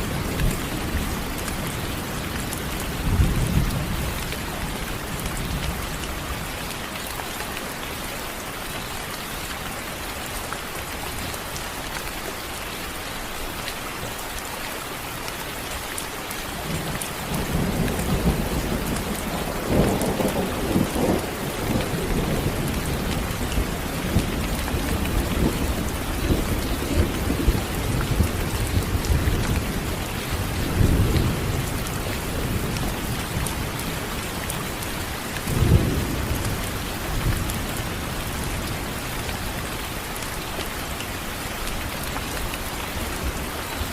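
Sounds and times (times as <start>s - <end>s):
steady rain hissing: 0.0s - 43.9s.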